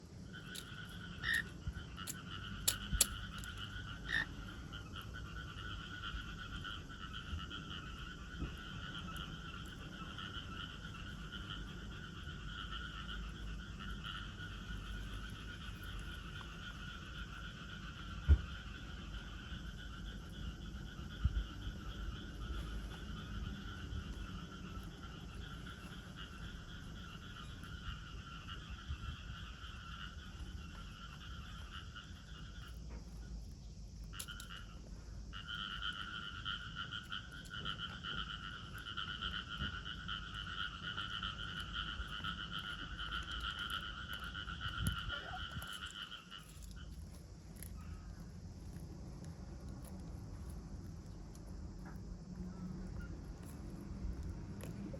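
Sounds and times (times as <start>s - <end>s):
low background rumble: 0.0s - 54.9s
cicada buzzing: 0.2s - 32.9s, 33.6s - 48.8s.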